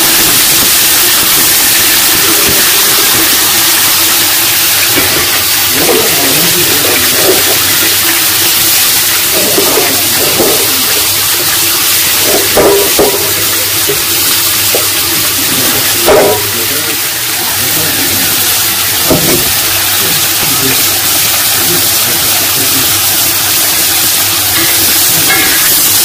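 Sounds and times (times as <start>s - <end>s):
mushrooms frying in a wok: 0.0s - 26.0s
water splashing in a pot: 0.0s - 26.0s.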